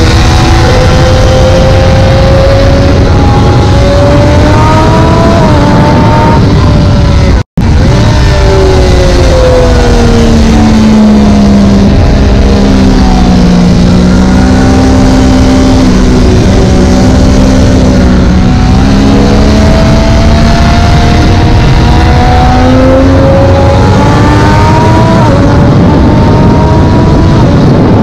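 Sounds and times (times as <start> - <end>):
motorcycle engine running hard: 0.0 - 28.0
wind rush over microphone: 0.0 - 28.0.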